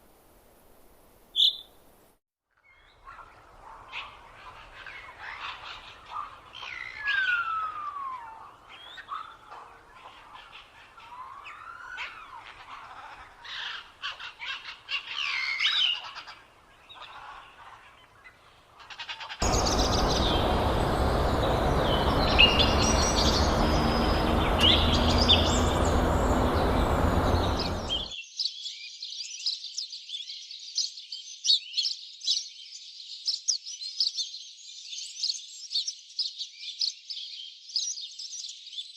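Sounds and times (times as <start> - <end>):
songbirds chirping: 2.7 - 18.5, 19.4 - 38.9.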